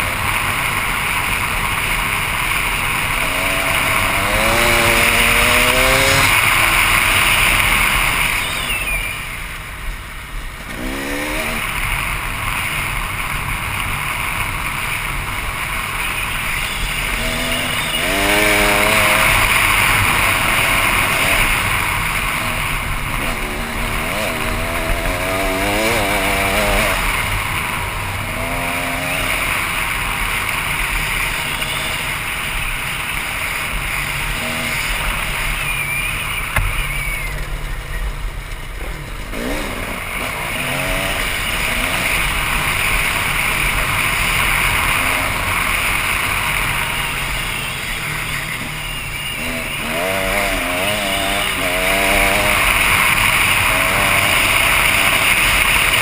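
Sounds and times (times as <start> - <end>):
dirt bike engine revving: 0.0 - 9.8, 10.6 - 37.9, 38.8 - 56.0
steady rushing noise: 0.0 - 56.0.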